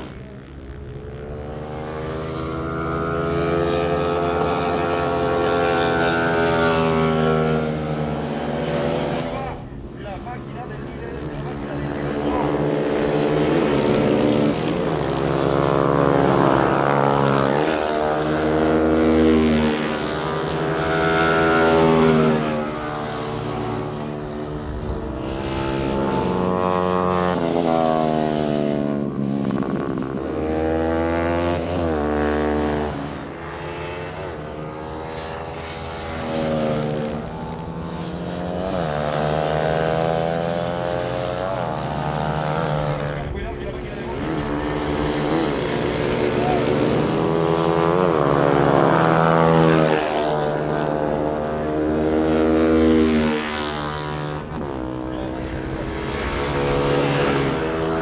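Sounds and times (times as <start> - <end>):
racing motorcycles revving past: 0.0 - 9.9, 10.7 - 58.0.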